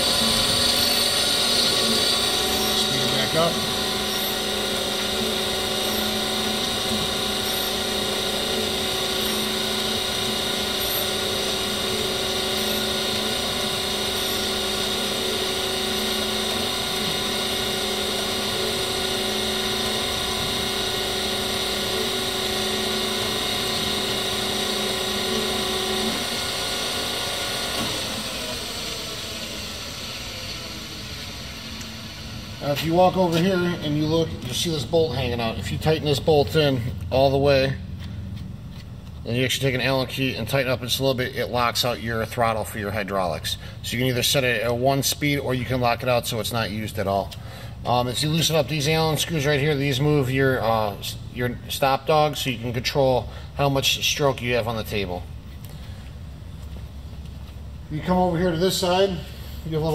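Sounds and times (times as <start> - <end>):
grinder motors humming: 0.0 - 59.9.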